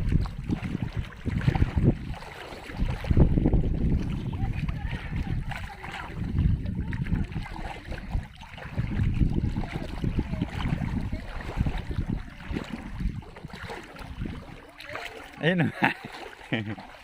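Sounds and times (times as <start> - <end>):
wind buffeting microphone: 0.0 - 15.4
water sloshing and splashing: 0.0 - 17.0.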